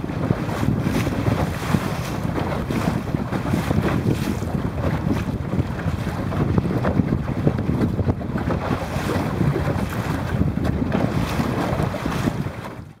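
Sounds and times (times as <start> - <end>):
waves splashing: 0.0 - 12.9
wind buffeting microphone: 0.0 - 13.0.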